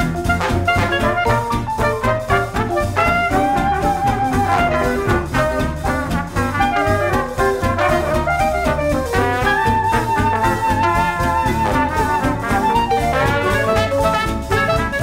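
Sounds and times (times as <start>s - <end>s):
jazz music with horns: 0.0s - 15.0s.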